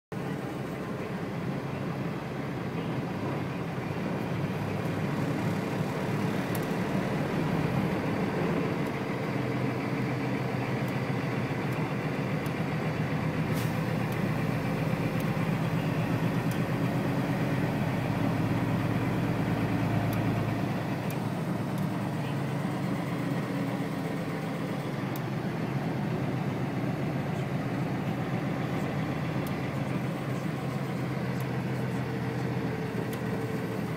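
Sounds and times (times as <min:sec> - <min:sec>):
vehicle engine droning: 0:00.1 - 0:33.9.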